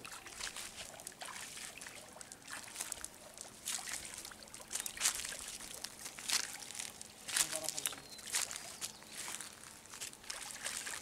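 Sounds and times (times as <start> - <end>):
wading splashes in water: 0.0 - 11.0.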